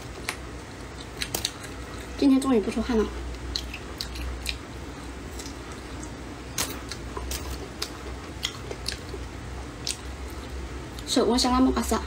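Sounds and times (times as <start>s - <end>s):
chewing food: 0.0s - 11.2s
low steady hum: 0.0s - 12.0s.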